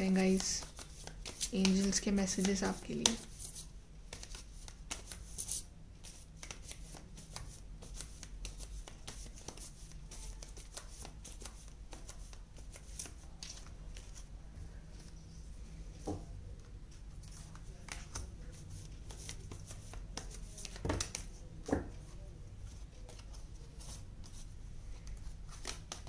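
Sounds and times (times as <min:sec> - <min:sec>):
cards shuffling: 0:00.1 - 0:14.3, 0:17.2 - 0:21.4, 0:23.0 - 0:26.0.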